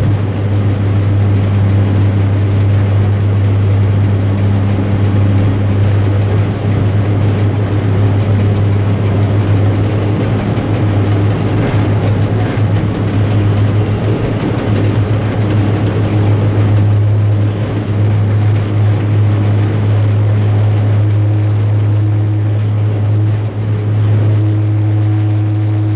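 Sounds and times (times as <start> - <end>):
locomotive diesel engine humming: 0.0 - 25.9.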